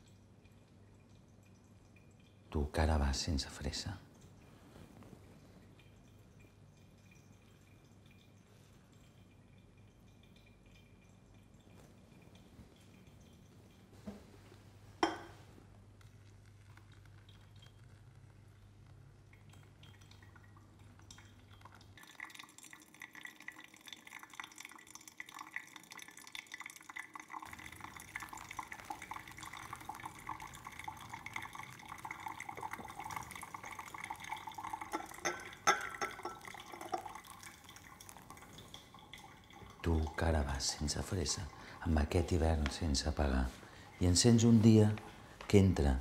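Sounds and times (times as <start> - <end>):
water trickling onto coffee grounds: 0.0 - 46.0.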